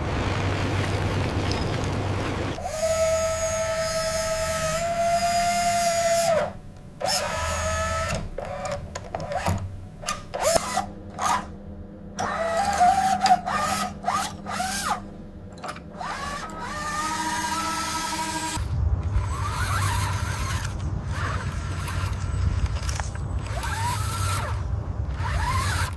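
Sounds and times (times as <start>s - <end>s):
small electric motors whining: 2.5s - 11.5s, 12.2s - 25.9s.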